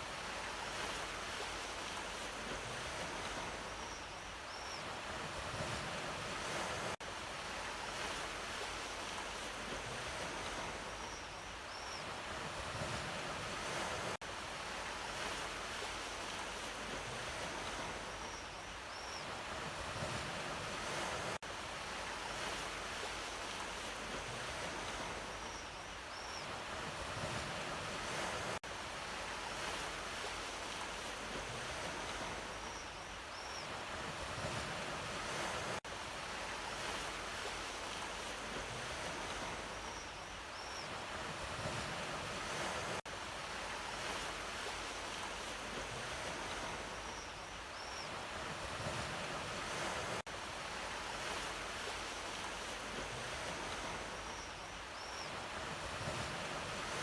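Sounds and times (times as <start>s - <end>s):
sea waves washing on shore: 0.0s - 11.2s, 12.0s - 57.0s.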